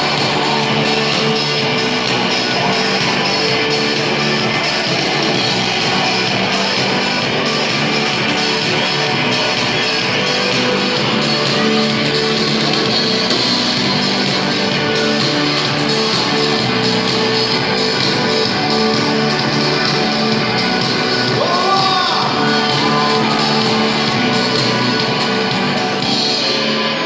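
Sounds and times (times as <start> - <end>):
rock band playing: 0.0 - 26.7
electric guitars: 0.0 - 27.0
person singing: 0.0 - 27.0.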